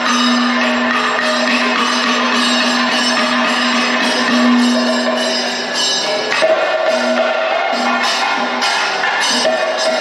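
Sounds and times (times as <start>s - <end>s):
drums beating: 0.0s - 10.0s
small cymbals: 0.0s - 10.0s.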